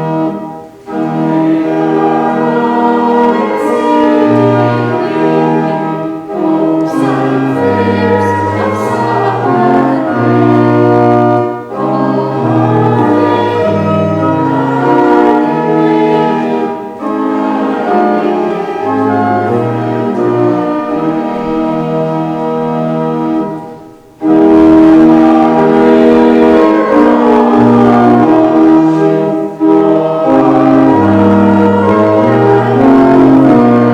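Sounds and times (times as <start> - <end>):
church organ chords: 0.0 - 33.9.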